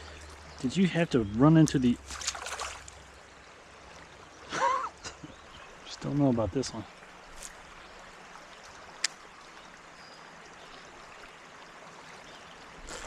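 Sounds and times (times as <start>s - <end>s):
creek running: 0.0s - 13.0s.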